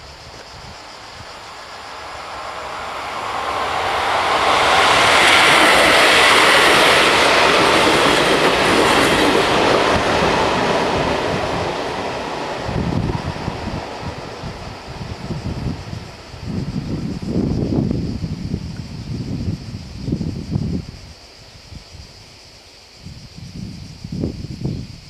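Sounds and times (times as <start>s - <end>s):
passenger train passing: 0.0s - 21.2s.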